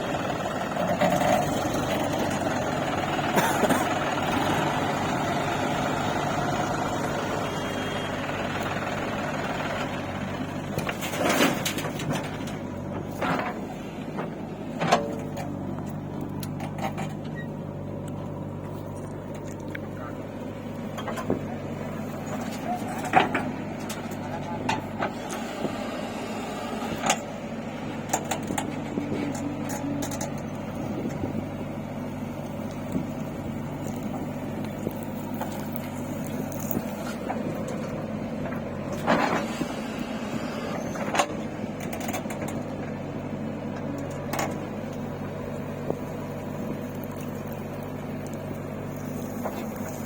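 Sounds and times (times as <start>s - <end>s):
heavy machinery diesel engine: 0.0s - 50.0s.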